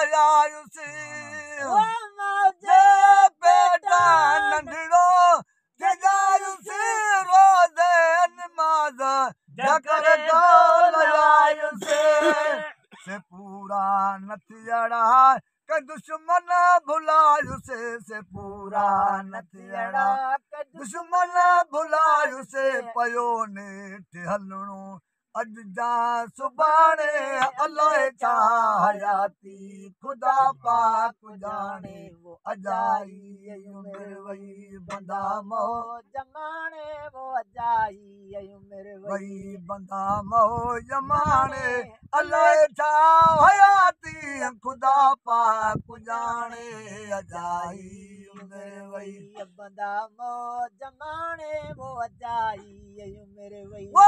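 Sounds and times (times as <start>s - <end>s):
man singing devotional song: 0.0s - 54.0s.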